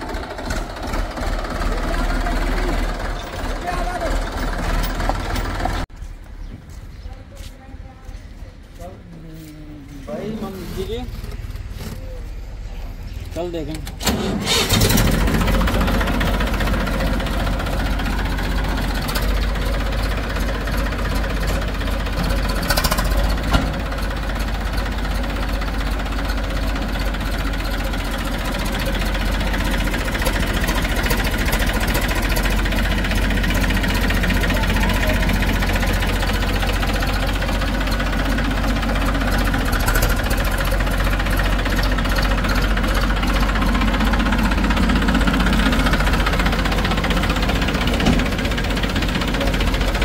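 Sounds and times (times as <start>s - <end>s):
tractor diesel engine idling: 0.0s - 5.9s, 8.0s - 50.0s.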